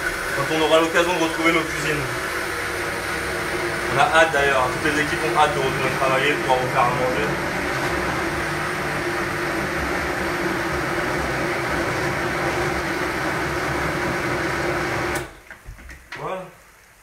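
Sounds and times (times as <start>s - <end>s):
blender motor running: 0.0s - 15.4s.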